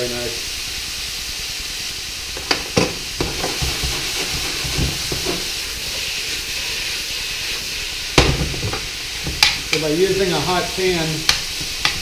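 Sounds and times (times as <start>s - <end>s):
meat sizzling in a hot pan: 0.0s - 12.0s.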